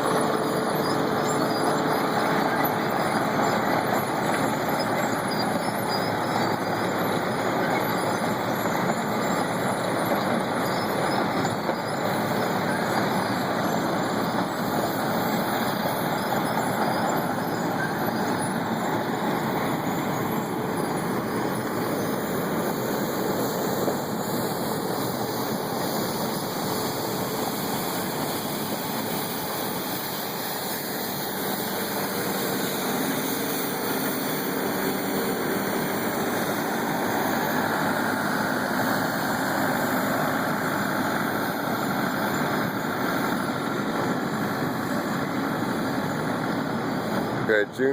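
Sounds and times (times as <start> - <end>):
milling machine grinding pavement: 0.0 - 47.9.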